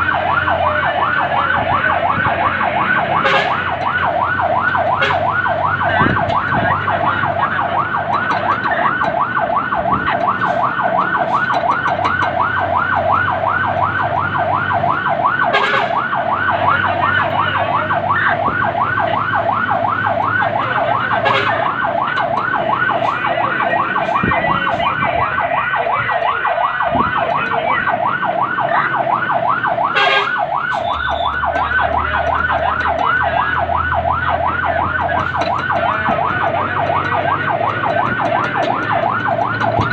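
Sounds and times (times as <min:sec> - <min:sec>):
fire truck siren yelping: 0:00.0 - 0:39.9
road noise: 0:00.0 - 0:39.9
truck engine: 0:00.0 - 0:39.9.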